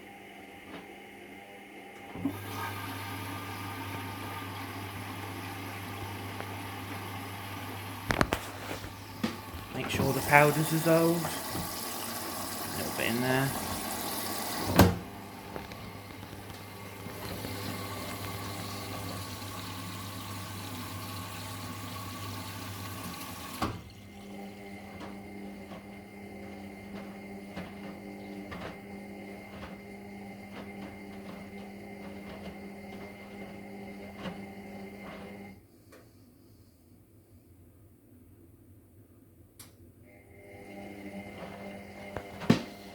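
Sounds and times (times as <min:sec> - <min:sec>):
water rushing into washing machine: 0:00.0 - 0:35.6, 0:40.1 - 0:42.9
washing machine hum with clicks: 0:00.0 - 0:36.6, 0:39.2 - 0:42.9.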